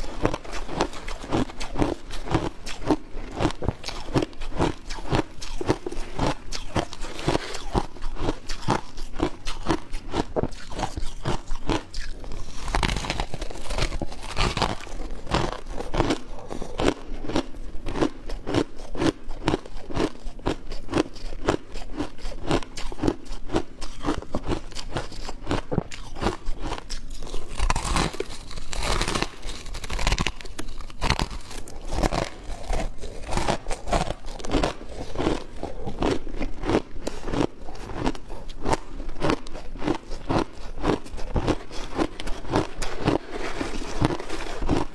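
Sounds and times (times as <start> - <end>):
ice crunching while chewed: 0.0 - 44.9.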